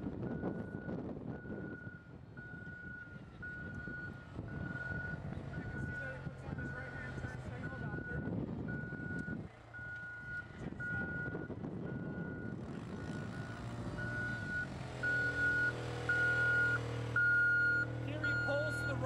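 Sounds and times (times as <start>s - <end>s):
engine humming: 0.1s - 19.0s
vehicle reversing beeper: 0.2s - 19.0s.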